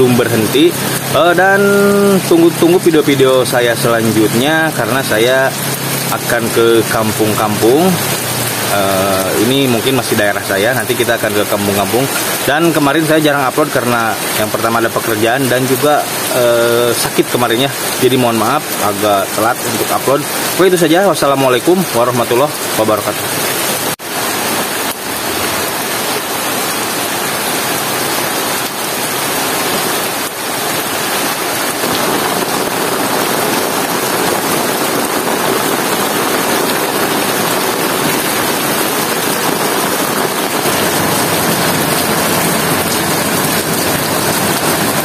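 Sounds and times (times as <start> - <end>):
heavy rain on foliage: 0.0 - 45.0.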